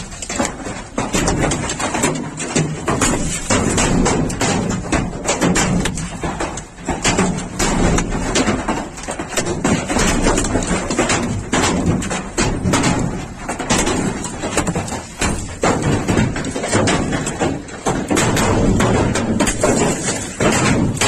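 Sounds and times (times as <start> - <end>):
hailstones pelting car bodies: 0.0 - 21.0.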